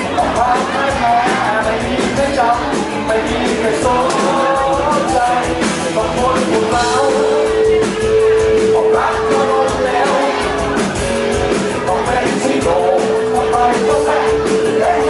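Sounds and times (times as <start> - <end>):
guitar: 0.0 - 15.0
person singing: 0.0 - 15.0
rock music: 0.0 - 15.0.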